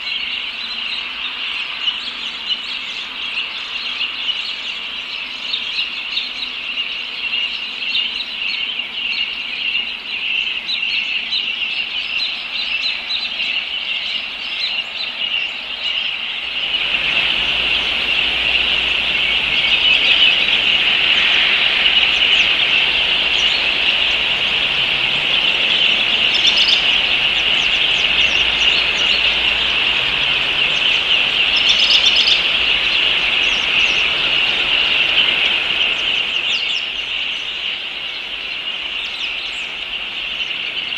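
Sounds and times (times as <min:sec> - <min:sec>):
birds chirping: 0:00.0 - 0:40.9
high bird calls: 0:00.0 - 0:40.9.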